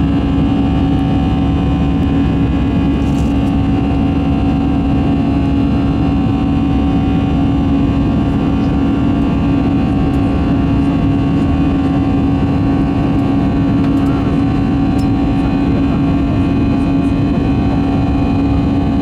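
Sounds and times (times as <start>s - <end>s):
airplane cabin engine rumble: 0.0s - 19.0s
constant hum: 0.0s - 19.0s.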